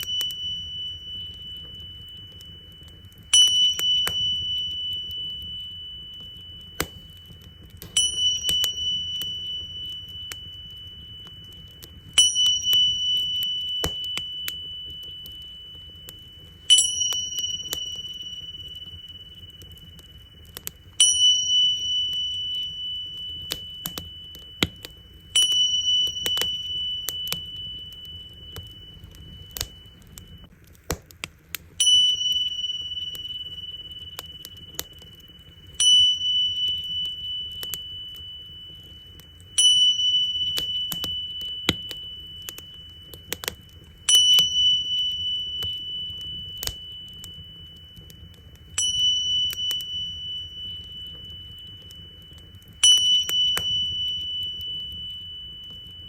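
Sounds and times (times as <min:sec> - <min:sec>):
tingsha cymbals ringing: 0:00.0 - 0:30.5, 0:31.8 - 0:56.0
bonfire crackling: 0:00.0 - 0:56.0.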